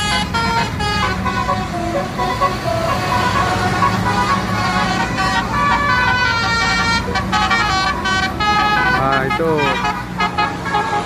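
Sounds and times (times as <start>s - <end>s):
bus engine running: 0.0s - 11.0s
multi-tone bus horn tune: 0.0s - 11.0s.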